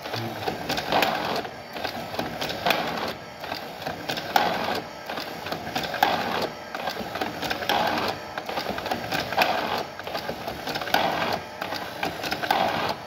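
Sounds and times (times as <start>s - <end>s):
machine rattling: 0.0s - 13.0s.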